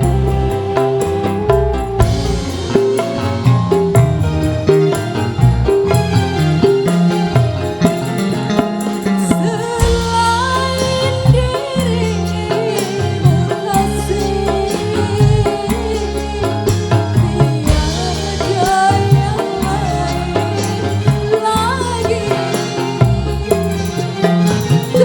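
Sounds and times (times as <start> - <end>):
deep pulsing bass: 0.0 - 12.4, 13.2 - 21.8
hand drum strokes: 0.0 - 25.0
live band playing: 0.0 - 25.0
ornamented melody line: 0.0 - 25.0.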